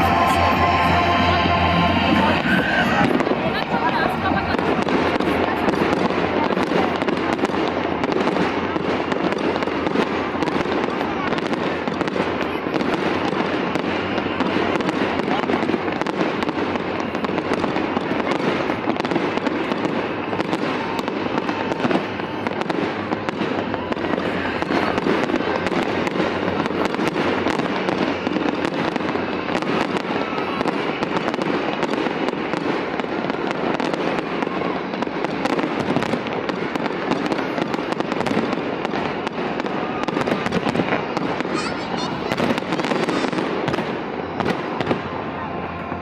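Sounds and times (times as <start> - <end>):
fireworks cracking and banging: 0.0 - 46.0.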